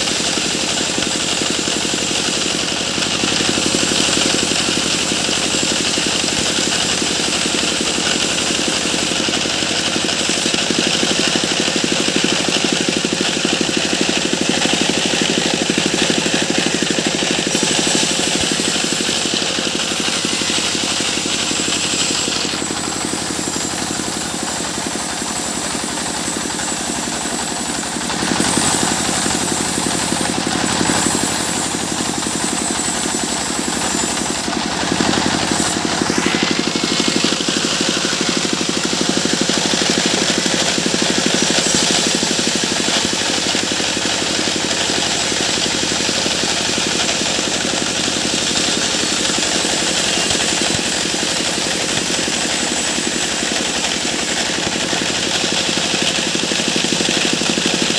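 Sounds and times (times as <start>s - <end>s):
pulsing sawmill engine: 0.0s - 57.9s.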